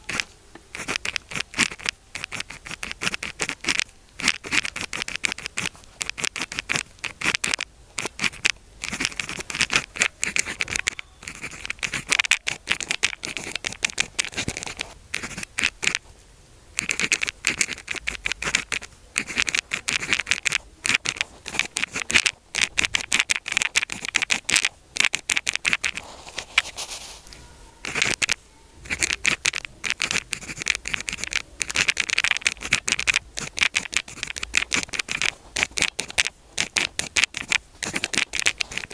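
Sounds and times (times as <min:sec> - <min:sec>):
pen scratching on paper: 0:00.0 - 0:16.0, 0:16.8 - 0:38.9.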